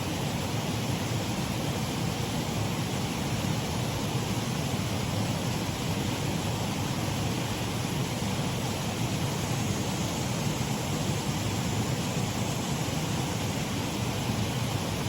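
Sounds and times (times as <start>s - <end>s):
water running over waterfall: 0.0s - 15.0s.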